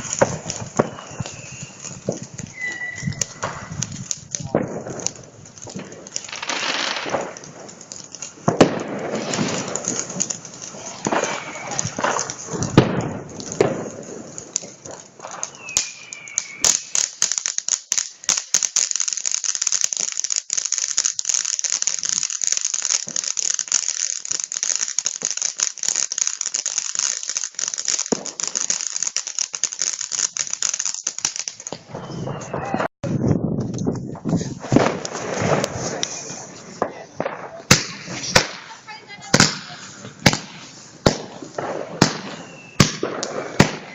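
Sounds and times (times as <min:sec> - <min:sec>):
fireworks launch thumps and bursts: 0:00.0 - 0:32.9, 0:33.6 - 0:43.9
fireworks crackling: 0:00.0 - 0:43.9.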